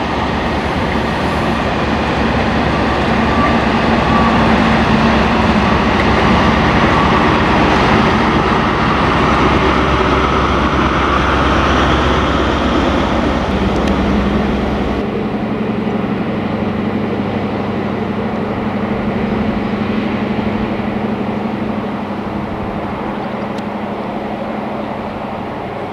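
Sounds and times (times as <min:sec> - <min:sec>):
diesel train engine drone: 0:00.0 - 0:25.9
engine hum: 0:00.0 - 0:25.9
train rolling noise: 0:00.0 - 0:25.9.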